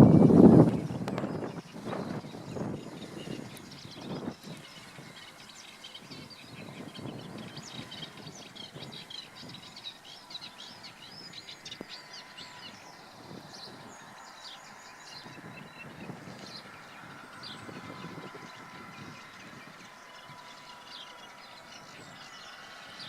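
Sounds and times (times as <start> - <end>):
songbirds singing and chirping: 0.0 - 23.0.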